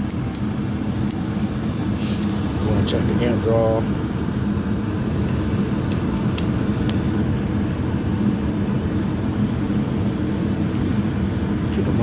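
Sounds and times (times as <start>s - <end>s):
gas furnace humming: 0.0s - 12.0s.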